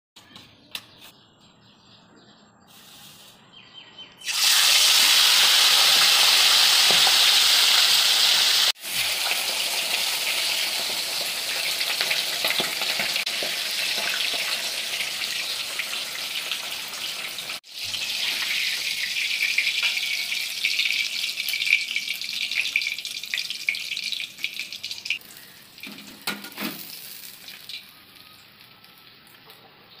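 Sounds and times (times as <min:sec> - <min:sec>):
fish sizzling in hot oil: 0:04.2 - 0:29.5.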